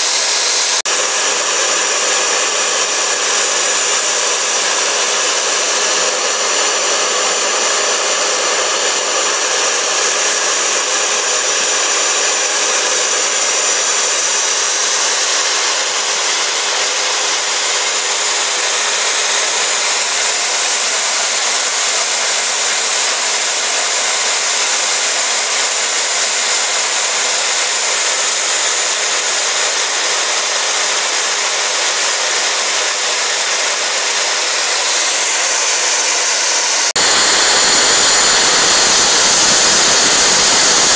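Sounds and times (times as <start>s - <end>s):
router spindle hiss and whine: 0.0s - 40.9s.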